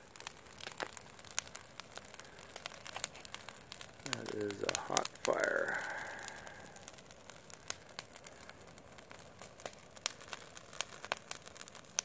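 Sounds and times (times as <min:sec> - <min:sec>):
fire crackling: 0:00.0 - 0:12.0
sharp pops from fire: 0:00.0 - 0:12.0.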